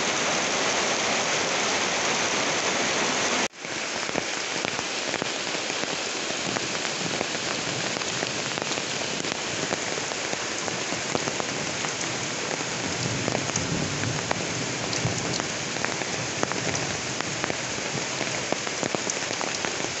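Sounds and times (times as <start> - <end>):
rain on a tin roof: 0.0 - 20.0.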